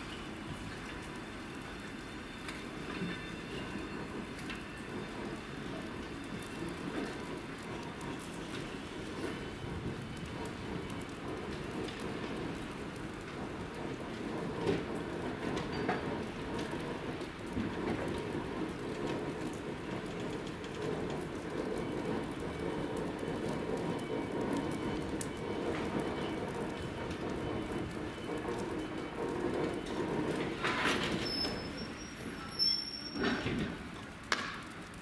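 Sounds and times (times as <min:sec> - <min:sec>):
rain falling on platform: 0:00.0 - 0:35.0.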